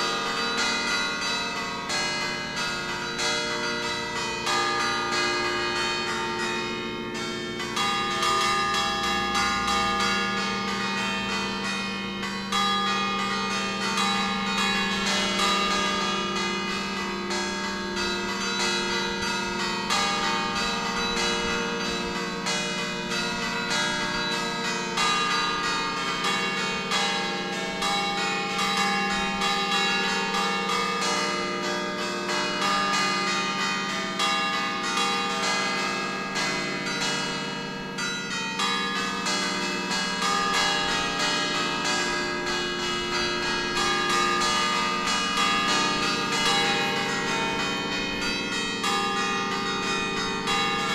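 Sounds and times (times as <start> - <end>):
church bells ringing: 0.0 - 50.9.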